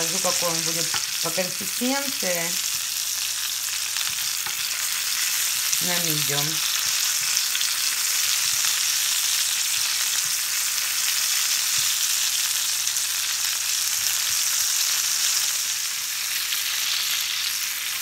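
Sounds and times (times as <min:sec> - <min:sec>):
steak sizzling in a pan: 0:00.0 - 0:18.0.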